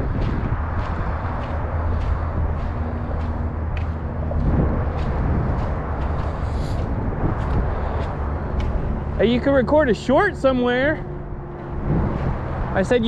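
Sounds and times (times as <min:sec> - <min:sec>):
distant traffic rumble: 0:00.0 - 0:13.0
footsteps on wet dirt trail: 0:00.0 - 0:13.0.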